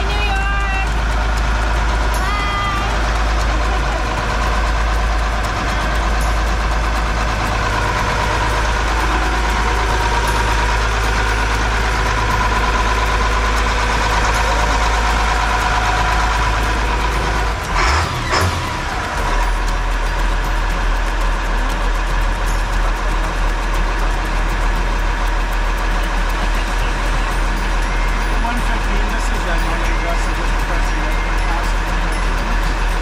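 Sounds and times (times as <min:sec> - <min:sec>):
boat engines idling: 0:00.0 - 0:33.0.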